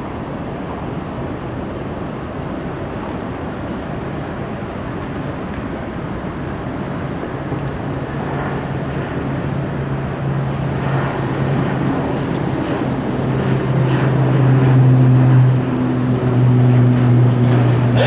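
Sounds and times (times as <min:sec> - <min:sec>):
turboprop plane taking off: 0:02.8 - 0:18.0.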